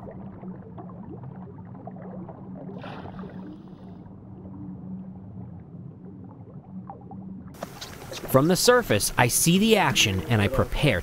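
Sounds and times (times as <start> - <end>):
faint underwater crackling: 0.0 - 11.0
underwater low hum: 0.0 - 11.0.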